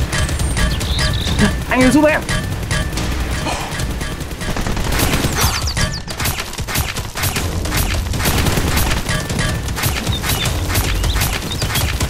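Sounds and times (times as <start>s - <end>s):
rapid toy blaster gunfire: 0.0s - 12.0s.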